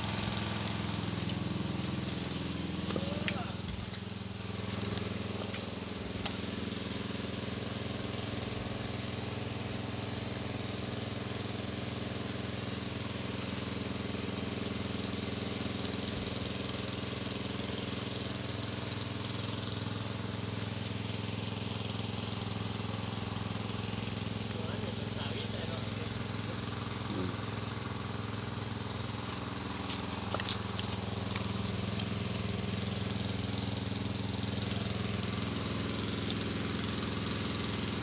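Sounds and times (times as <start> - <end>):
small engine humming: 0.0 - 38.0.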